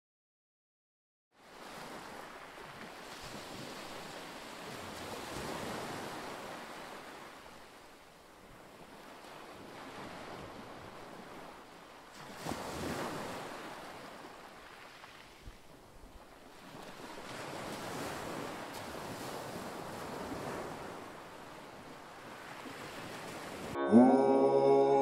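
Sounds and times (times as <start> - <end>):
wind: 1.3 - 25.0
waves washing in: 1.4 - 15.4, 16.2 - 25.0.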